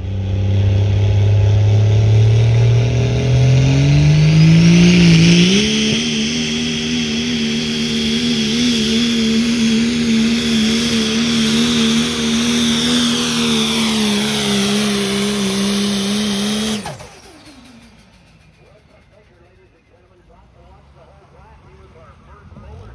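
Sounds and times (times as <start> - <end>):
diesel engine at full throttle: 0.0 - 22.9.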